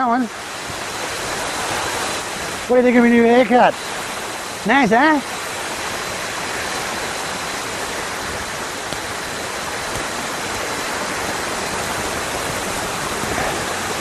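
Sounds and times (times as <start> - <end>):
waterfall and heavy rain rushing: 0.0 - 14.0.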